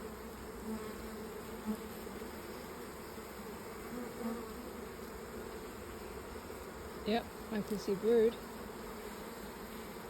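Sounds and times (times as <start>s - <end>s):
honeybees buzzing: 0.0s - 10.0s
single bees droning past: 0.0s - 10.0s.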